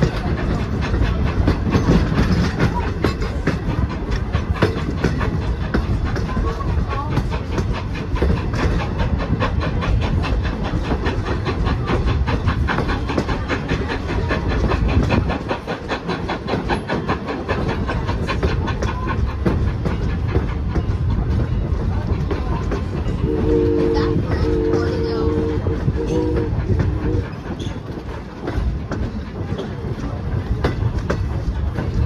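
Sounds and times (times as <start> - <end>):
train wheels clickety-clack: 0.0 - 32.0.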